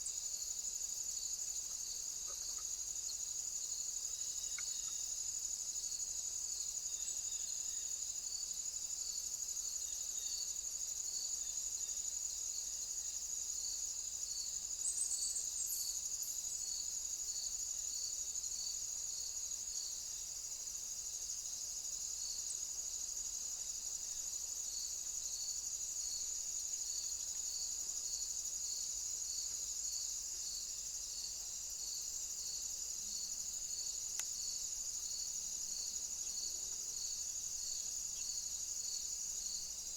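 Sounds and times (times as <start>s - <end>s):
crickets chirring: 0.0s - 39.9s
pulsing insect song: 0.0s - 39.9s.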